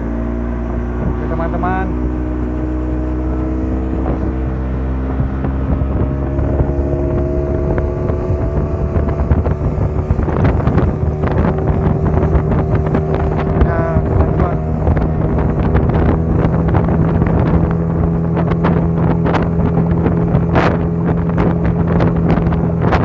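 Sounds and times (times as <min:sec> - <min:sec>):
boat motor running: 0:00.0 - 0:23.0
wind gusts on microphone: 0:00.0 - 0:23.0.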